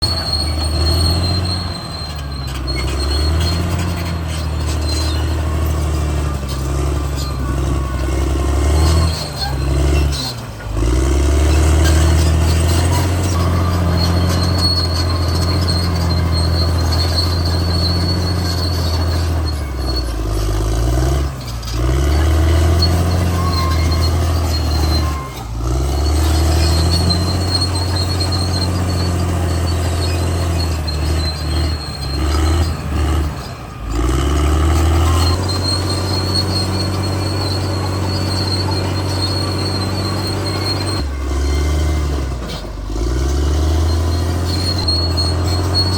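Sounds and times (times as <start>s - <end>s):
bulldozer diesel engine: 0.0s - 45.9s
high squeal: 0.0s - 45.9s.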